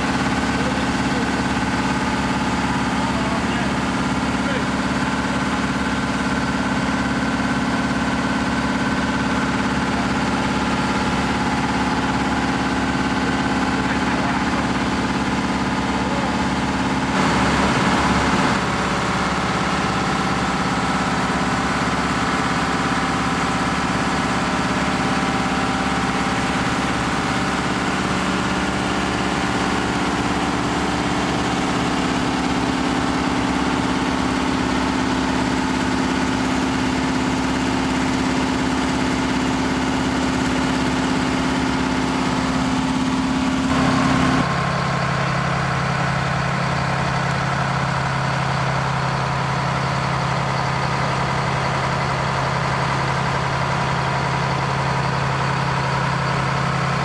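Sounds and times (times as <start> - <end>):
fire engine running: 0.0 - 57.0.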